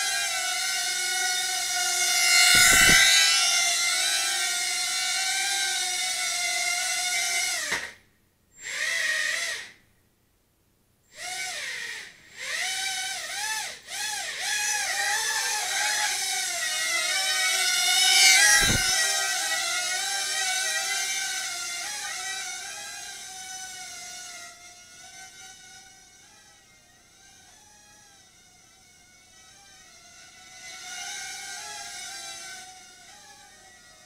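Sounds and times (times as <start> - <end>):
quadcopter propellers whining: 0.0 - 7.9, 11.1 - 34.0.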